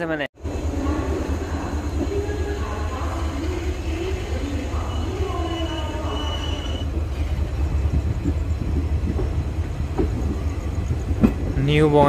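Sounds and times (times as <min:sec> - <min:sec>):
train running gear rumble: 0:00.4 - 0:12.0.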